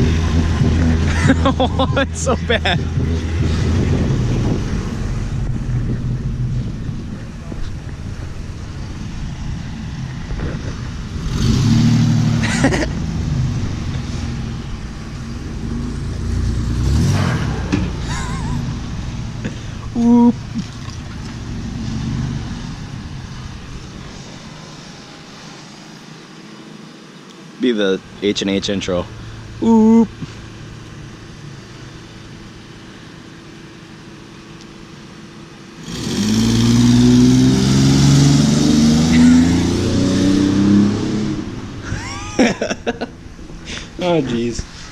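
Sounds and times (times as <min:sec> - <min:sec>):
car engine running: 0:00.0 - 0:44.9.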